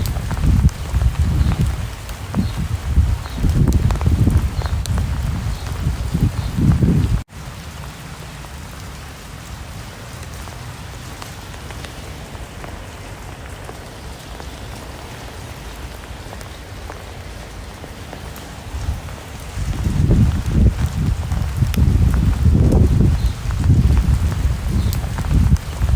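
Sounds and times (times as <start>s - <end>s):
raindrops ticking: 0.0s - 25.9s
steady rain hiss: 0.0s - 25.9s.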